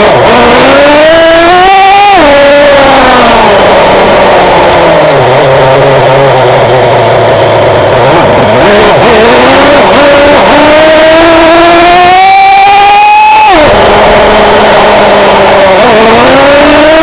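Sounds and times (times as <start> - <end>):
model nitro engine revving: 0.0 - 17.0.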